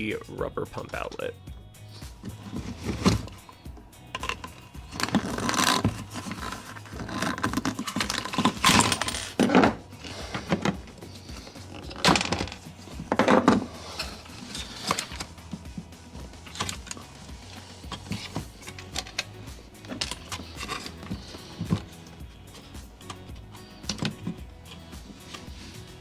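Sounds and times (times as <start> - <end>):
metal clinking and scraping: 0.8 - 26.0.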